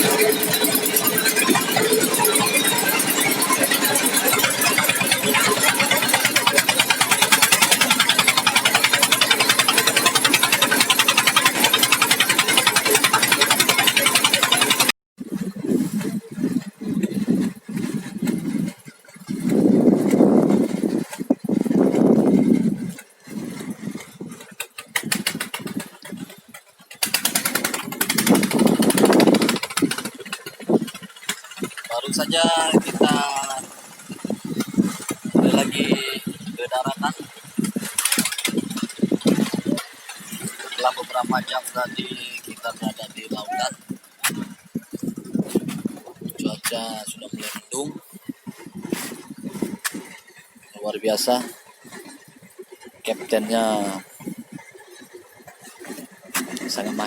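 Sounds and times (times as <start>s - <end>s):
boat engine chugging: 0.0s - 57.0s.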